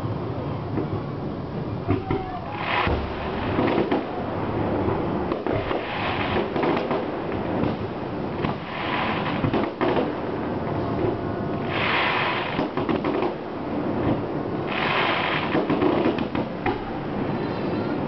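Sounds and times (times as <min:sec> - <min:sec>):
fireworks hissing and crackling: 0:00.0 - 0:18.0
fireworks bangs and crackles: 0:00.5 - 0:18.0.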